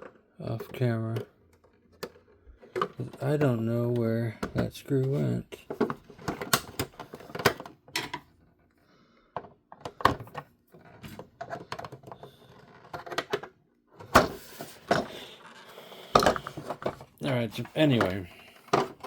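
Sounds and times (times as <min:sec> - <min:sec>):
plastic parts clattering: 0:00.0 - 0:08.3, 0:09.4 - 0:19.0.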